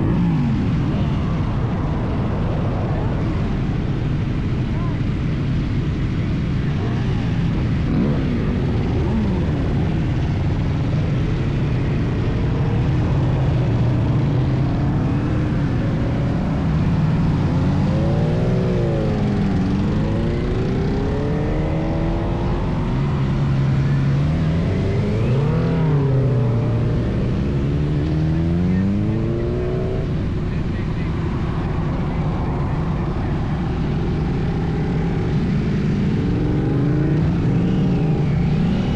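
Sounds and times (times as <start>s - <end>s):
wind and road noise: 0.0s - 38.9s
motorcycle engine revving: 6.1s - 38.9s.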